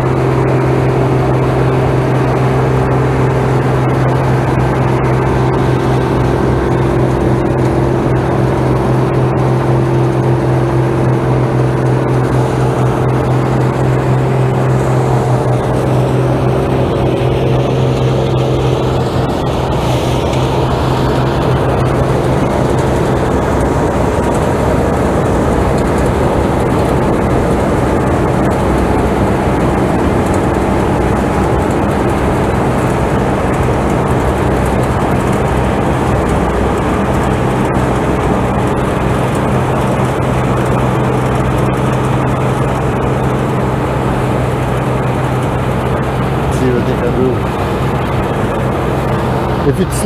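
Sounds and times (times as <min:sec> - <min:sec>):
harvesting machine engine droning: 0:00.0 - 0:50.0.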